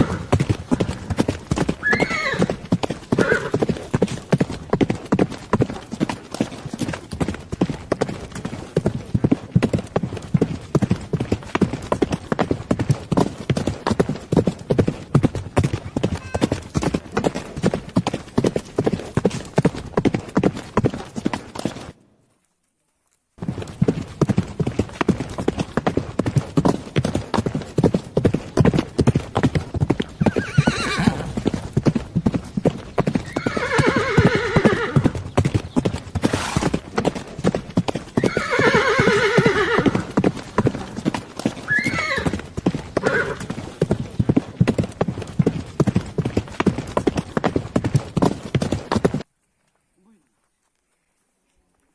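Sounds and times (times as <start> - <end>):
horse hooves clip-clopping: 0.0 - 51.9.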